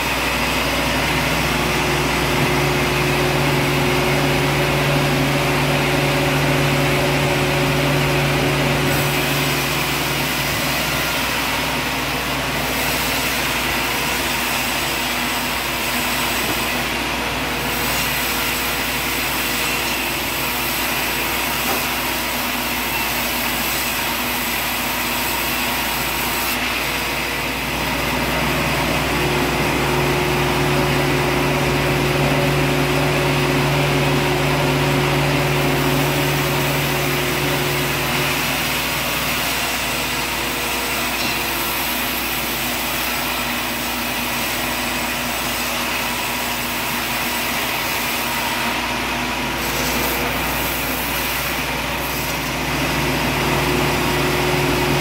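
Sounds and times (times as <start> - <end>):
band sawmill running hum: 0.0 - 55.0
saw blade cutting log: 0.0 - 55.0.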